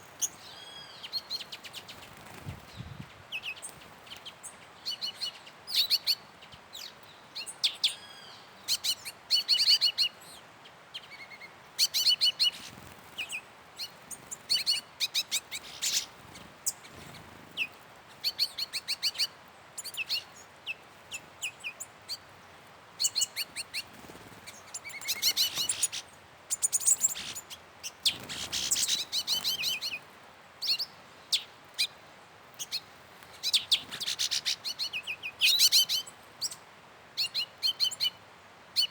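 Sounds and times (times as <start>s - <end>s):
faint background hiss: 0.0s - 38.9s
songbirds chirping: 0.0s - 38.9s.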